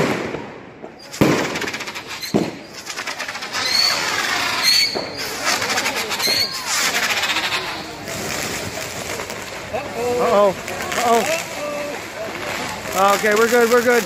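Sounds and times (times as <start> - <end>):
firework bangs: 0.0 - 14.0
firework crackling: 0.0 - 14.0
rising firework whistles: 0.0 - 14.0.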